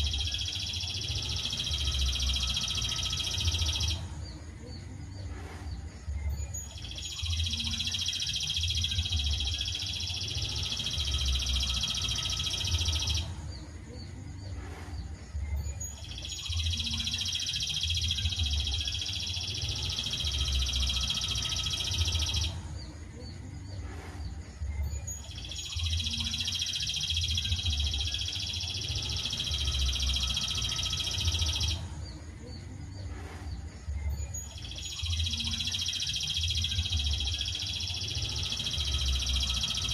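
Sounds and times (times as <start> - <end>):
high trilling bird song: 0.0 - 39.9.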